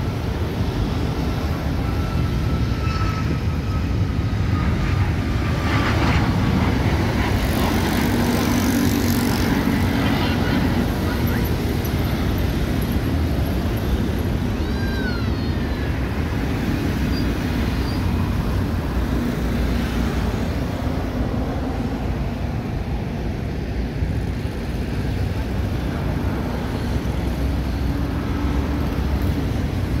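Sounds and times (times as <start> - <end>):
jet airliner rumble: 0.0 - 30.0.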